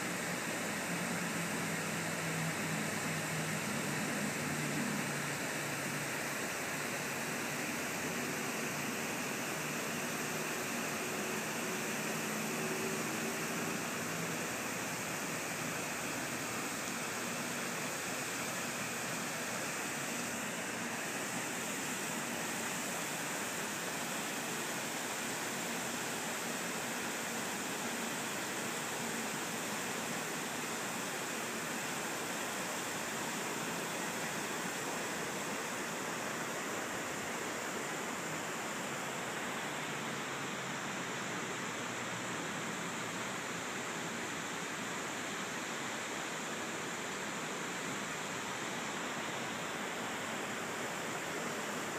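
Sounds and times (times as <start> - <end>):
river water rushing over dam: 0.0 - 51.9.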